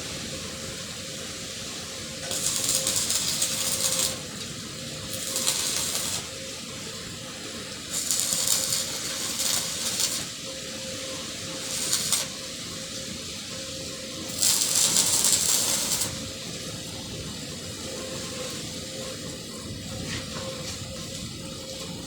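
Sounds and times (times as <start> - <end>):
arc welding crackling: 0.0 - 22.0.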